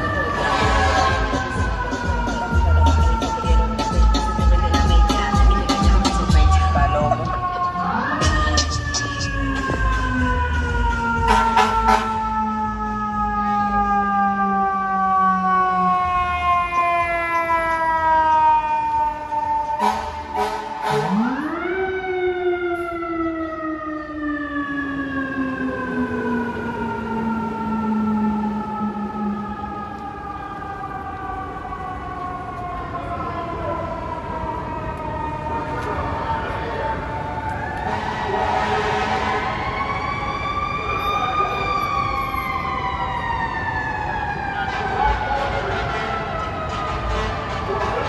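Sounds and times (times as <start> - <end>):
city traffic hum: 0.0 - 48.0
fire engine siren wailing: 0.0 - 48.0.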